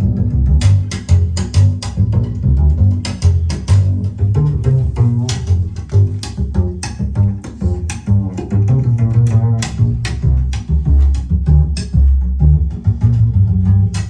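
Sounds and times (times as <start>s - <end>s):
deep bass line: 0.0s - 14.0s.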